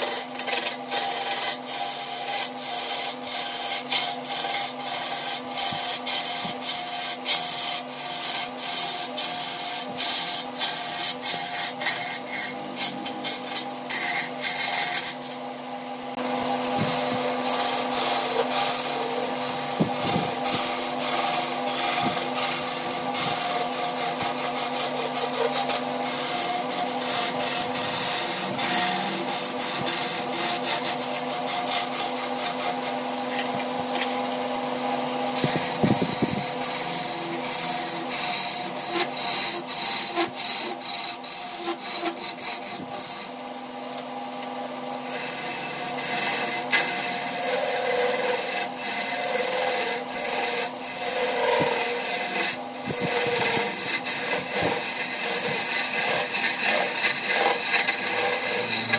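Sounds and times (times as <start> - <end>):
lathe motor hum: 0.0 - 58.9
turning tool cutting wood: 0.0 - 58.9.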